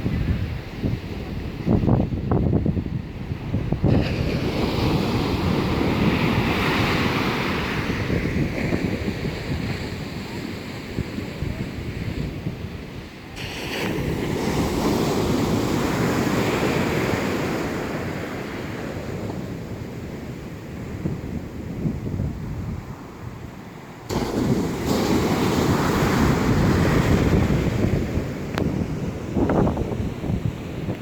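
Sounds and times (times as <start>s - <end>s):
rough sea surf breaking: 0.0s - 31.0s
wind buffeting microphone: 0.0s - 31.0s.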